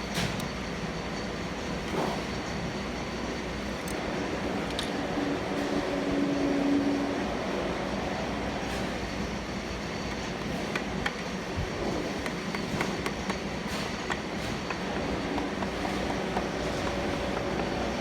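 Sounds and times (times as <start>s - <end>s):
mechanical rumble and hum: 0.0s - 18.0s.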